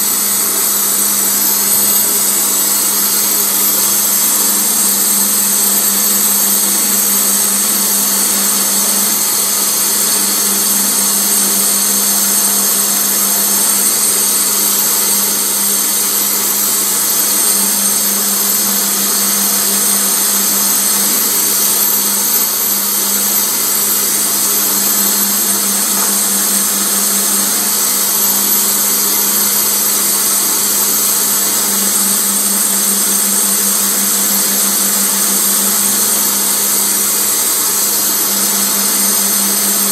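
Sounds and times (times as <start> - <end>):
high hiss of buffing: 0.0 - 39.9
polishing motor humming: 0.0 - 39.9.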